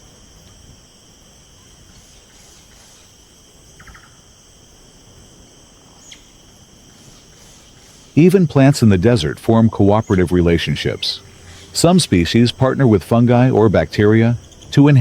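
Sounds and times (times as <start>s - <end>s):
chorus of insects: 0.0s - 15.0s.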